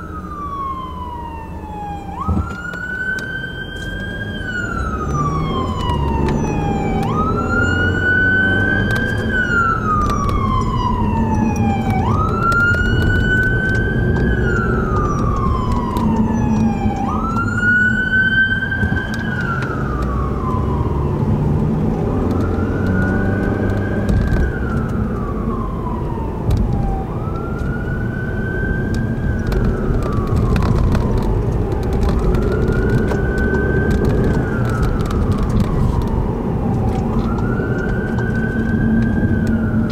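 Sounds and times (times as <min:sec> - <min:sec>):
city traffic rumble: 0:00.0 - 0:39.9
emergency siren wailing: 0:00.0 - 0:39.9.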